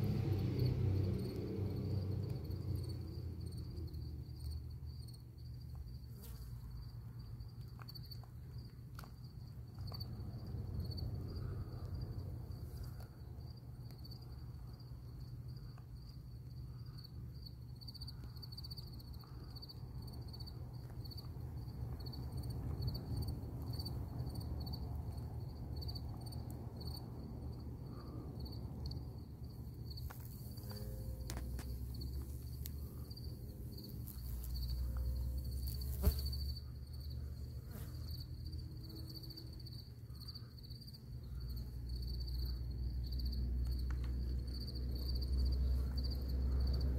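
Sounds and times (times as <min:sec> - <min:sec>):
insect chirping: 0:00.0 - 0:46.9
low steady hum: 0:00.0 - 0:46.9.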